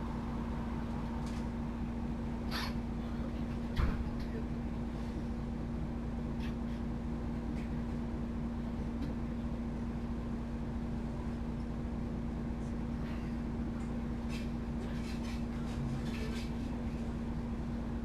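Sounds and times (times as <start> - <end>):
bus diesel engine humming: 0.0 - 18.0.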